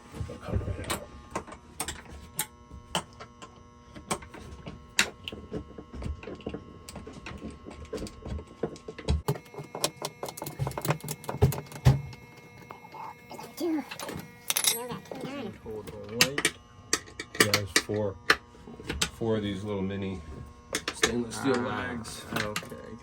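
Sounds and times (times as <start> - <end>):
background hum: 0.0 - 23.0.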